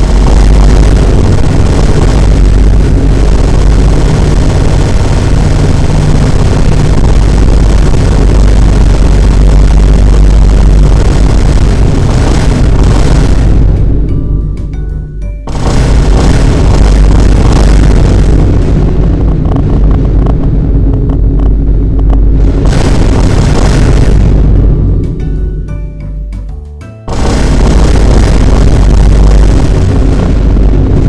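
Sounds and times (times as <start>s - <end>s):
loud steady roaring with low rumble: 0.0s - 26.4s, 27.1s - 31.0s.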